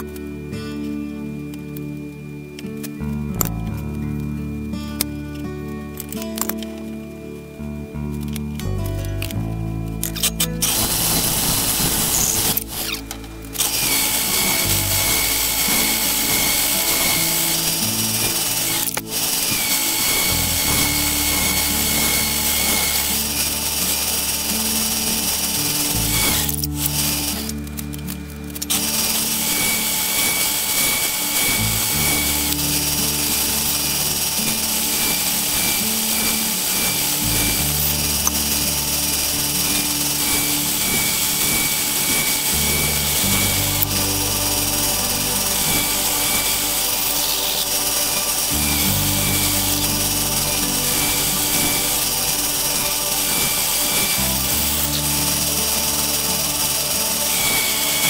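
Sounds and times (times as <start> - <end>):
background music with low chords: 0.0 - 58.0
metal lathe cutting metal: 10.2 - 27.9, 28.5 - 58.0.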